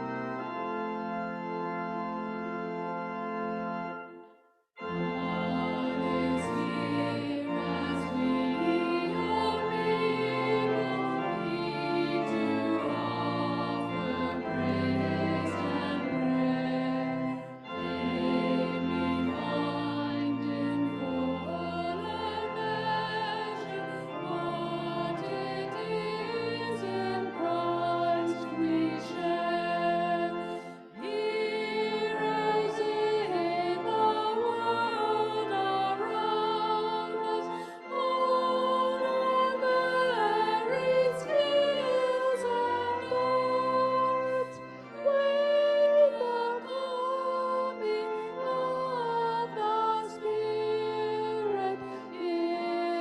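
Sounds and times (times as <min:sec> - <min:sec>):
hymn music with sustained chords: 0:00.0 - 0:53.0.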